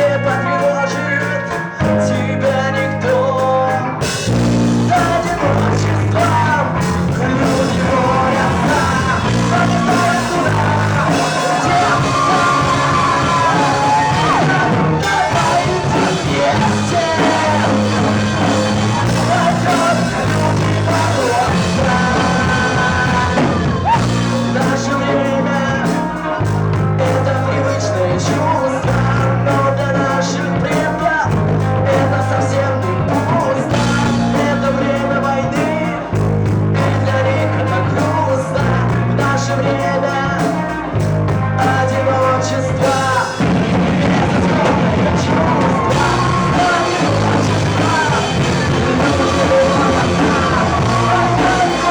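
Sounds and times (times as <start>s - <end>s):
bass holding notes: 0.0s - 51.9s
melodic lead line: 0.0s - 51.9s
rock band playing loudly: 0.0s - 51.9s.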